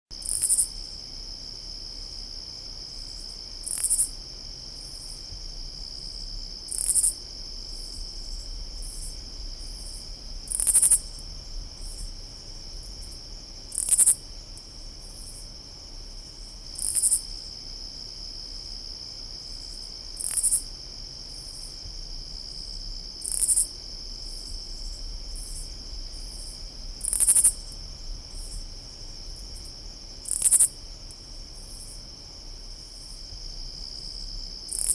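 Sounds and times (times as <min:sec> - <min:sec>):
crickets trilling: 0:00.2 - 0:34.9.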